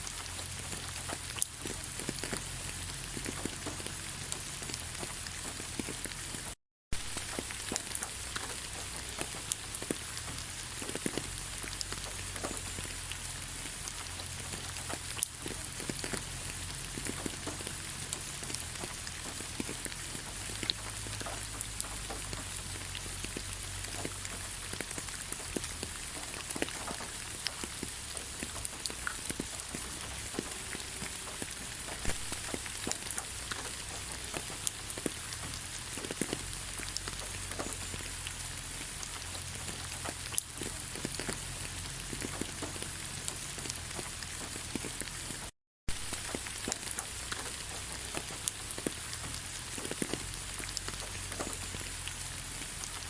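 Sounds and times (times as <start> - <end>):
light rain: 0.0 - 53.0
raindrops ticking: 0.1 - 53.0.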